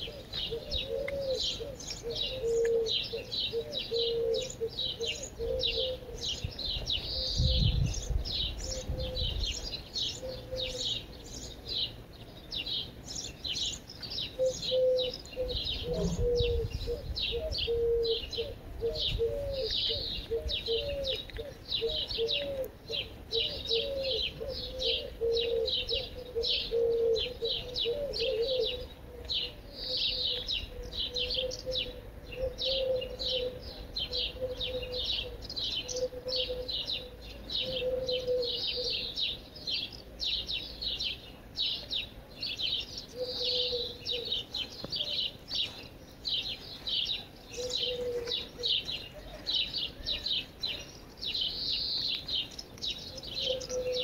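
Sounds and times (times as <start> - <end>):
lower bird call: 0.0 - 11.6, 13.1 - 40.0, 42.7 - 54.0
songbirds chirping: 0.0 - 54.0.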